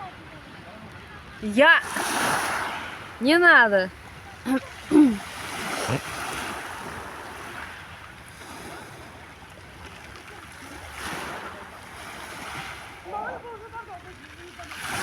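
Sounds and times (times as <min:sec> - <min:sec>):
sea water lapping: 0:00.1 - 0:15.0.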